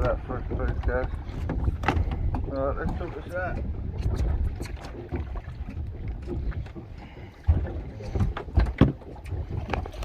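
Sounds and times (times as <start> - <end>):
low rumble of wind on boat: 0.0 - 10.0.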